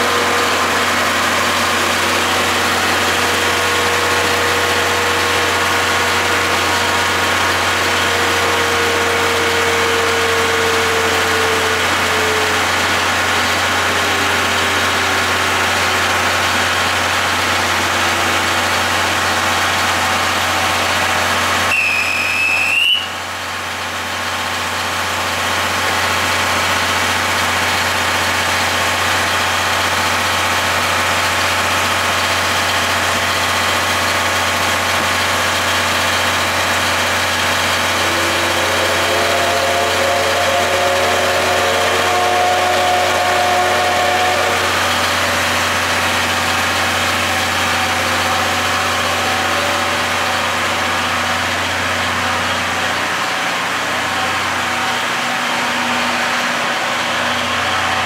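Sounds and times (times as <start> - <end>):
diesel generator humming: 0.0 - 58.0.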